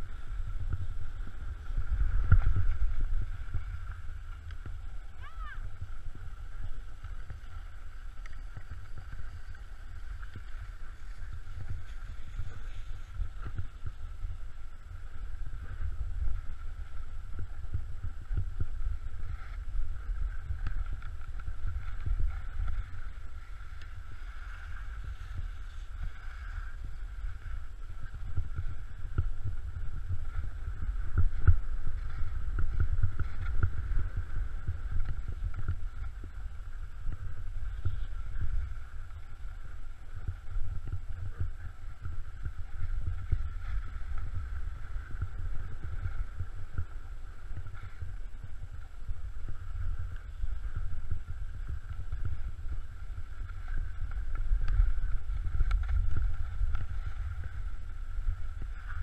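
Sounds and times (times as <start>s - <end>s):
skis sliding on snow: 0.0s - 59.0s
wind buffeting microphone: 0.0s - 59.0s.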